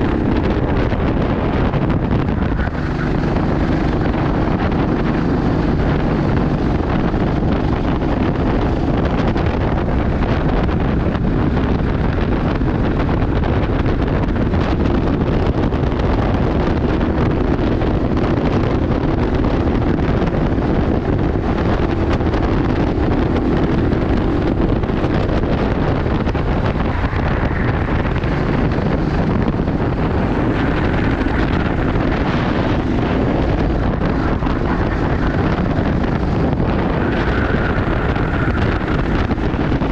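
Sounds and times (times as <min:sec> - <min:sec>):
go-kart engine racing: 0:00.0 - 0:39.9
wind buffeting microphone: 0:00.0 - 0:39.9.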